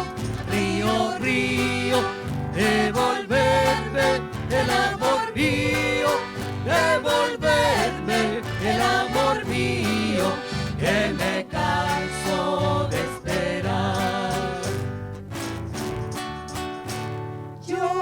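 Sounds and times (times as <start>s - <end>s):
folk ensemble playing a waltz: 0.0s - 14.6s.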